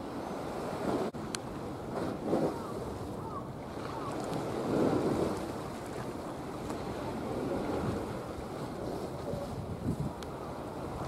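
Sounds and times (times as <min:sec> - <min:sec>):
waves: 0:00.0 - 0:11.0
wind buffeting microphone: 0:00.0 - 0:11.0.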